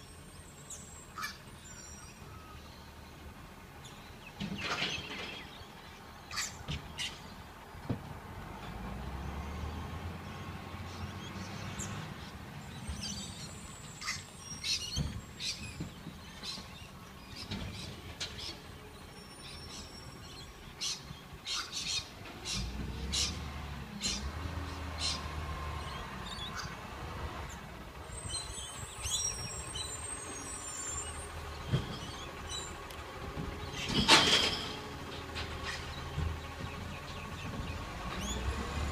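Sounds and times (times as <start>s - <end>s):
small birds chirping: 0.0s - 7.9s, 9.4s - 32.8s, 35.2s - 38.6s
truck engine rumble: 0.0s - 38.9s.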